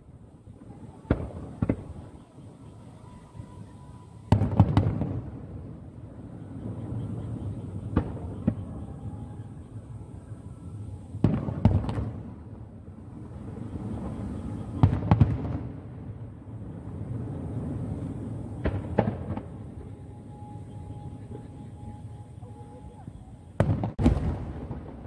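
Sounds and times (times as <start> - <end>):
firework bangs: 0.0 - 25.0.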